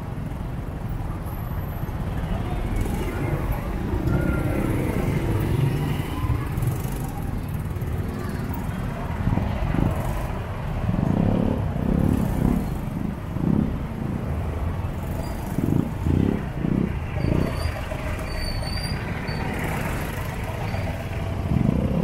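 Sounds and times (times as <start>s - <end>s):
motorcycle engine: 2.7s - 22.0s.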